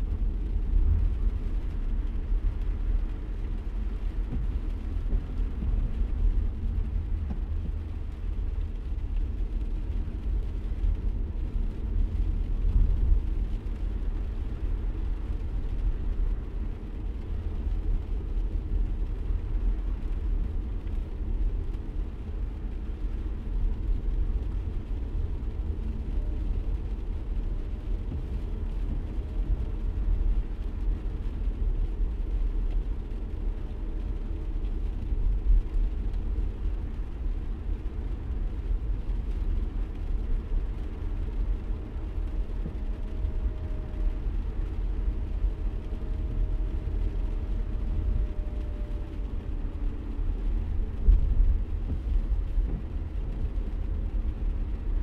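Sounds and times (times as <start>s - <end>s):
car road rumble inside cabin: 0.0s - 55.0s.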